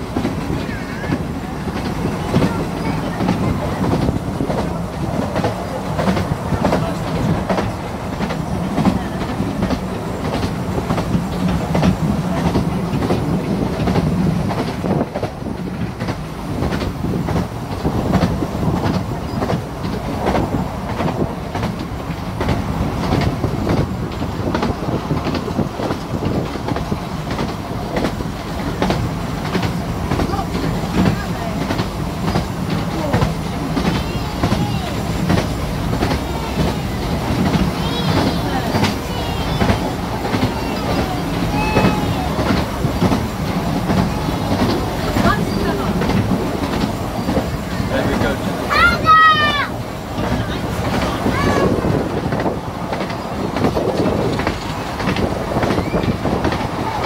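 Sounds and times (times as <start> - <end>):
miniature train running on track: 0.0 - 57.0.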